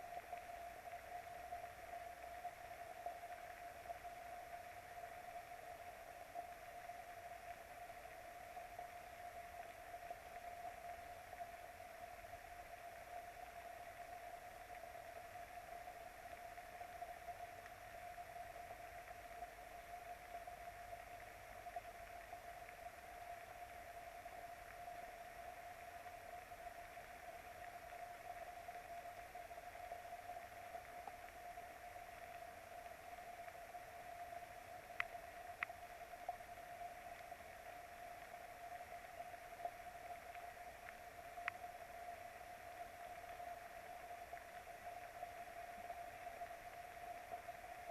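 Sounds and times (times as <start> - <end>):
faint constant hum: 0.0 - 47.9
raindrops ticking on camera: 0.0 - 47.9
steady hiss: 0.0 - 47.9.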